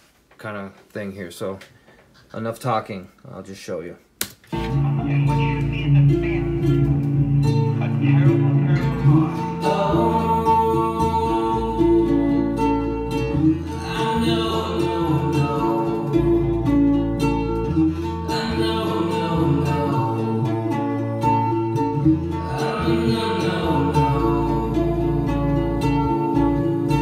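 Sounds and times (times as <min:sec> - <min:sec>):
mellow song with guitars and vocals: 0:04.5 - 0:27.0.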